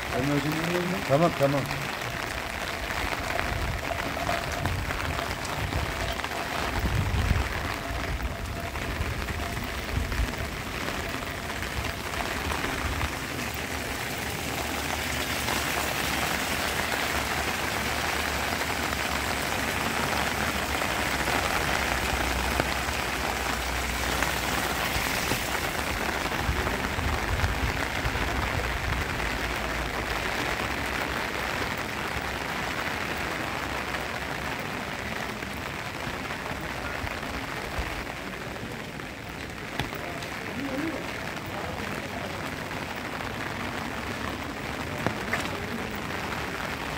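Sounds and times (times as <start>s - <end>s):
rain falling on paving stones: 0.0s - 46.9s.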